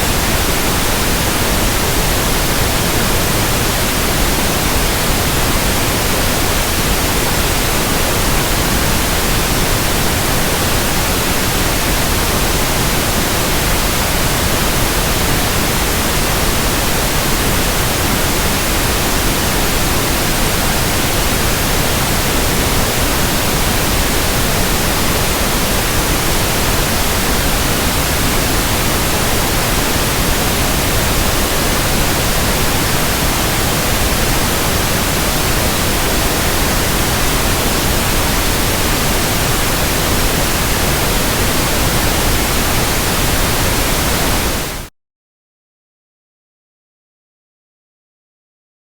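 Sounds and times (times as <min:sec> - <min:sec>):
pink noise hiss: 0:00.0 - 0:44.9.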